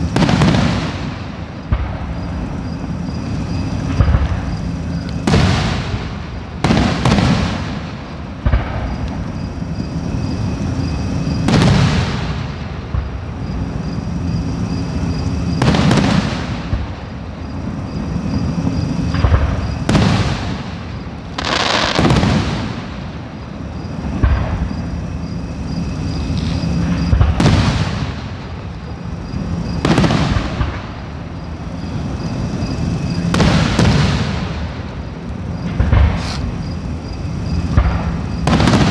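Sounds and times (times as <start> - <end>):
firework shells booming: 0.0 - 9.5, 10.8 - 13.6, 14.9 - 17.3, 17.9 - 23.4, 24.0 - 24.9, 26.7 - 31.5, 32.2 - 36.8, 37.6 - 38.9.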